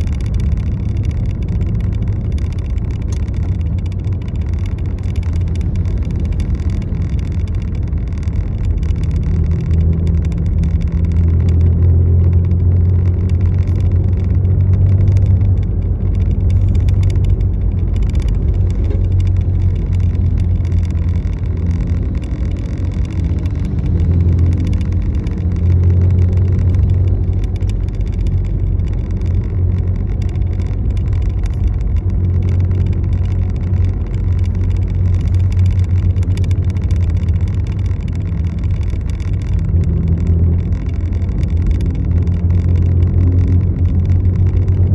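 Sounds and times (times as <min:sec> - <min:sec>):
faint shifting whine: 0:00.0 - 0:44.9
vehicle engine and road rumble: 0:00.0 - 0:44.9.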